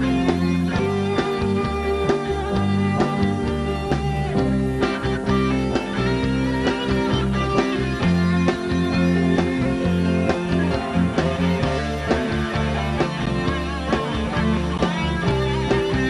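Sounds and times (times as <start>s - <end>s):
drum kit beat: 0.0s - 16.0s
electric bass: 0.0s - 16.0s
electric guitars: 0.0s - 16.0s.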